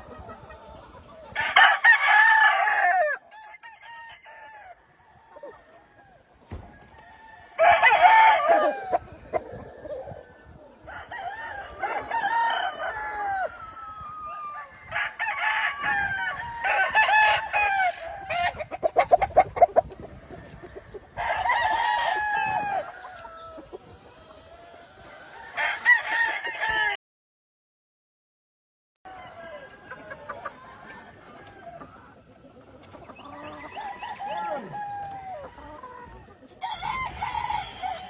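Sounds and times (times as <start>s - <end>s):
roosters crowing: 1.2s - 23.8s, 24.8s - 27.0s, 29.1s - 38.0s.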